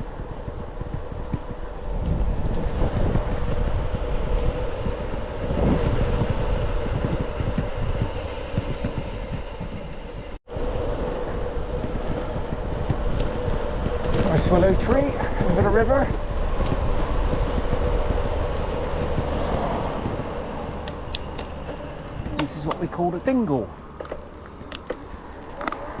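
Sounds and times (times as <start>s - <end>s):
faint steady hum: 0.0s - 23.9s
bicycle tyre noise: 0.0s - 26.0s
wind rumbling on microphone: 0.0s - 26.0s.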